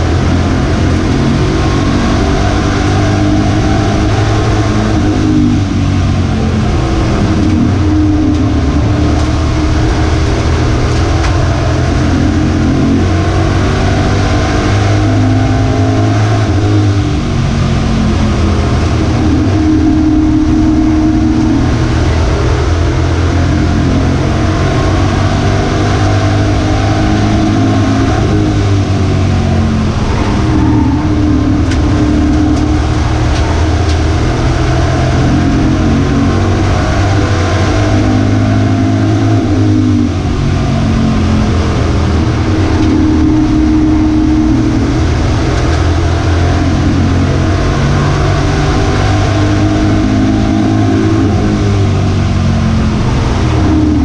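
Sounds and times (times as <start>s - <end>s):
racing truck engine revving: 0.0s - 54.0s.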